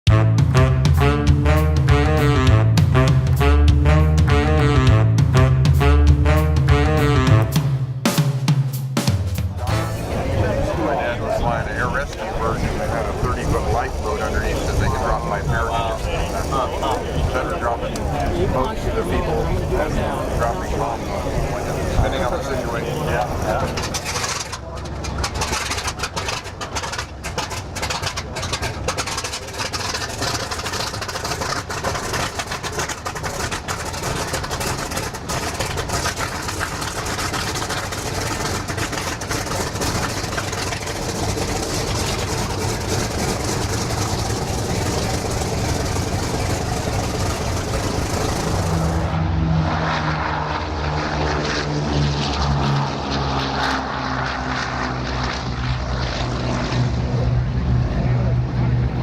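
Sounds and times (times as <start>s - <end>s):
propeller airplane engine: 0.0s - 59.0s
low engine hum: 9.6s - 59.0s.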